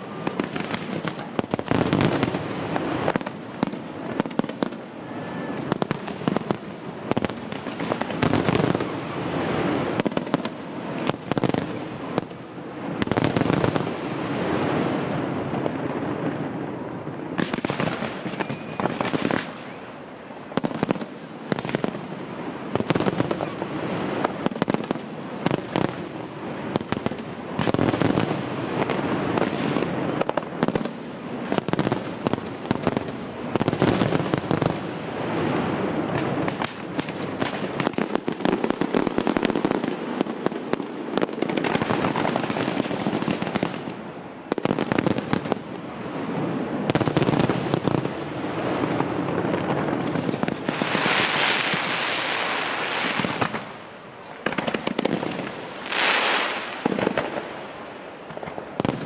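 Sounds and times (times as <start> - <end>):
fireworks bangs and pops: 0.0 - 59.0
fireworks crackle: 0.0 - 59.0.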